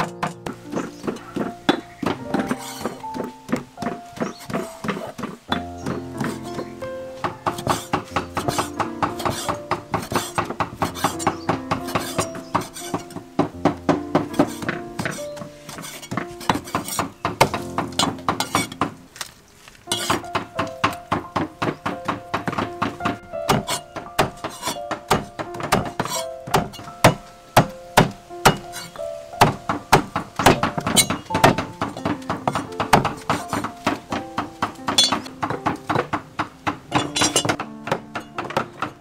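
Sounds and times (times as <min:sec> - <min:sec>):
cleaver chopping on wooden block: 0:00.0 - 0:19.3, 0:19.9 - 0:39.0
background music: 0:00.0 - 0:39.0.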